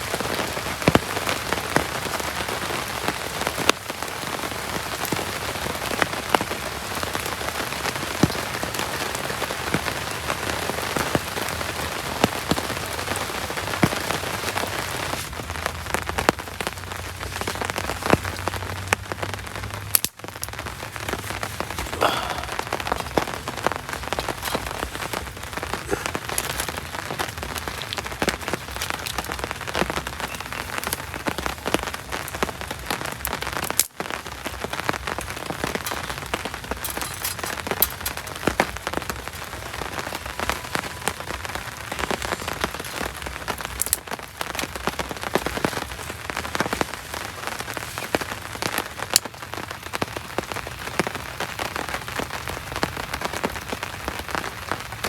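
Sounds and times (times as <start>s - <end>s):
heavy rain downpour: 0.0s - 55.0s
sharp raindrop strikes: 0.0s - 55.0s.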